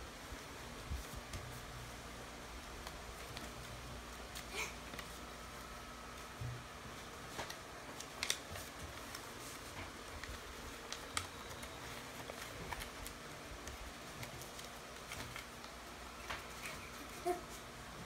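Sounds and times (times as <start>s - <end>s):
electric fan humming: 0.0s - 18.0s
paper rustling and crackling: 0.1s - 18.0s.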